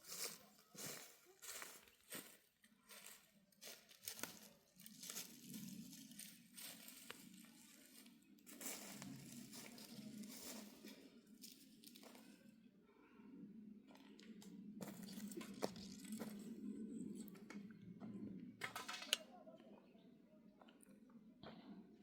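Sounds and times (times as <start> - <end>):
faint low hum: 0.2 - 22.0.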